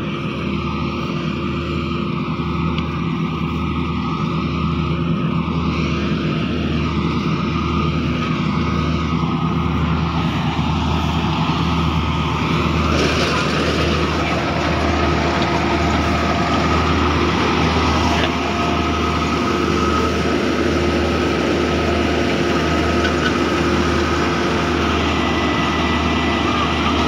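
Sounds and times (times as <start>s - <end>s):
harvester engine drone: 0.0s - 27.0s
high machine whine: 0.0s - 27.0s.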